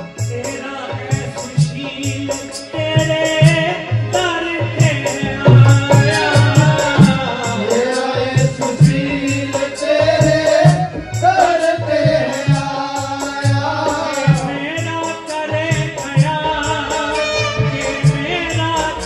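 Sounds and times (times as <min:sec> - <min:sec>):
jingling percussion: 0:00.0 - 0:19.0
low drum beats: 0:00.0 - 0:19.0
person singing devotional song: 0:00.0 - 0:19.0.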